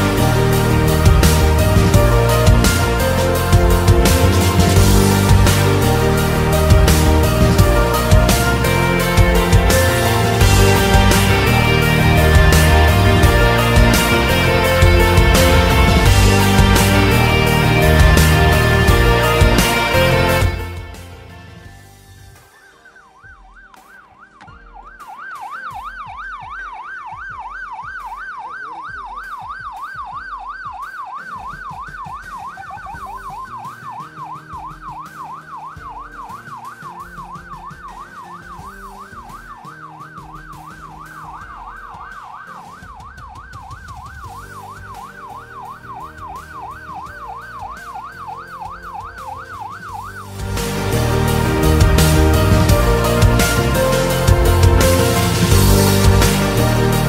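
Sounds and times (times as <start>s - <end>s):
police siren yelping: 0.0s - 21.0s, 22.7s - 56.9s.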